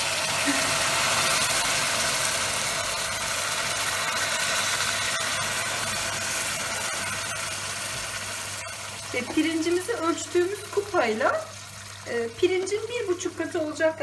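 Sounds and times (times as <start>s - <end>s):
water sizzling in hot pot: 0.0s - 14.0s.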